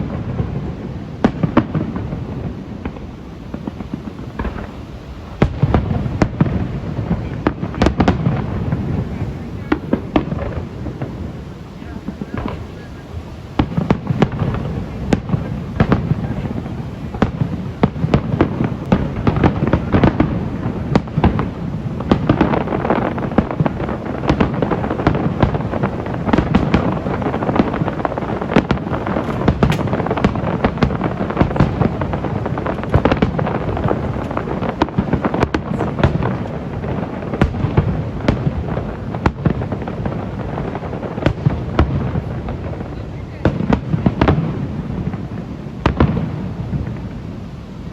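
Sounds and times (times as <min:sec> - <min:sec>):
constant rumble: 0:00.0 - 0:47.9
fireworks bursts and crackling: 0:00.0 - 0:47.9.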